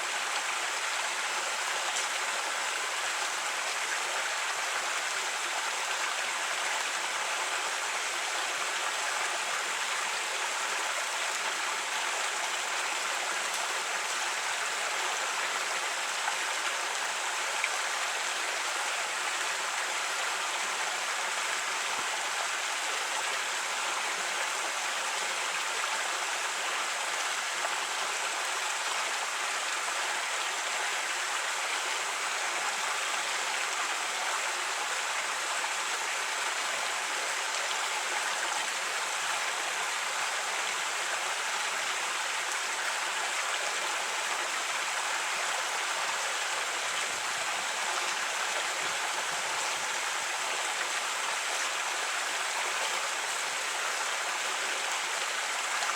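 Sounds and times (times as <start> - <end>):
creek flowing over rocks: 0.0 - 55.9.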